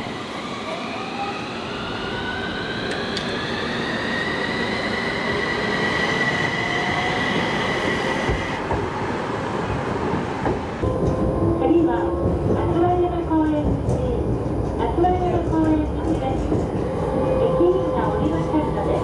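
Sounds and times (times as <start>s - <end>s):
tram rolling rumble: 0.0s - 19.0s.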